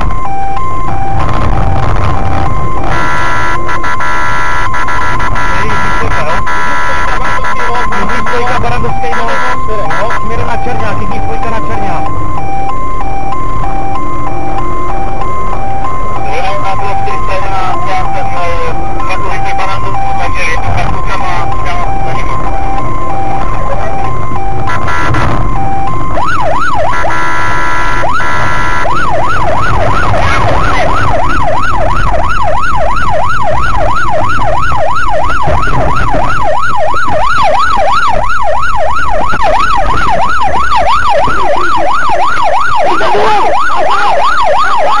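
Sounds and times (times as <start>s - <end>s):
engine and road rumble: 0.0s - 45.0s
police siren yelping: 0.0s - 45.0s.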